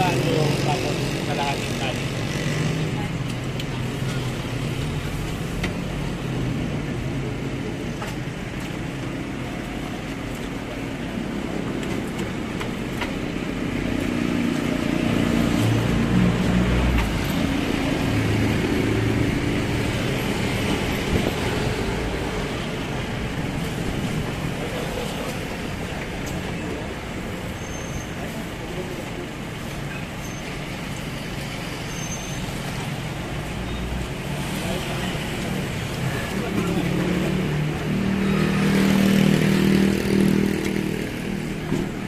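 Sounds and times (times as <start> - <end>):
street traffic: 0.0 - 42.0.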